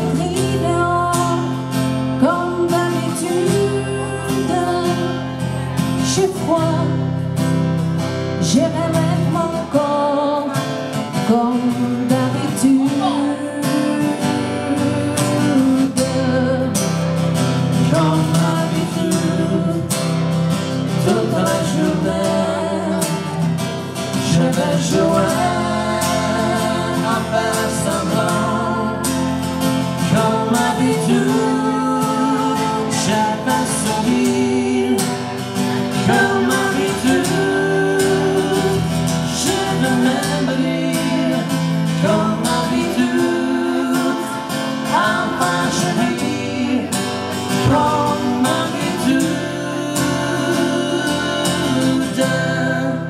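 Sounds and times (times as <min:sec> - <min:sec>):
strummed acoustic guitar: 0:00.0 - 0:53.0.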